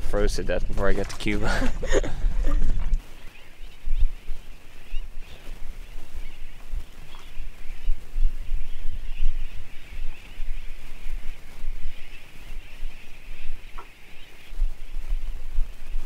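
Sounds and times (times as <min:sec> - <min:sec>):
wind buffeting microphone: 0:00.0 - 0:16.0
seabird colony calling: 0:00.2 - 0:16.0.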